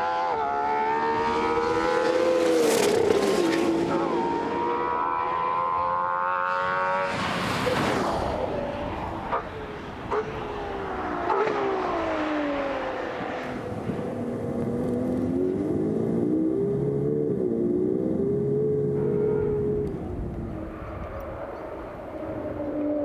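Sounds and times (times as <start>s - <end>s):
car engine at high revs: 0.0s - 23.0s.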